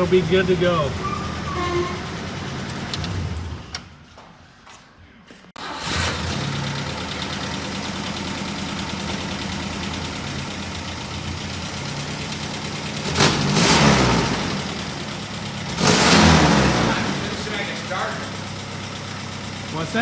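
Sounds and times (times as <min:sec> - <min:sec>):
car engine running: 0:00.0 - 0:03.7, 0:05.9 - 0:20.0.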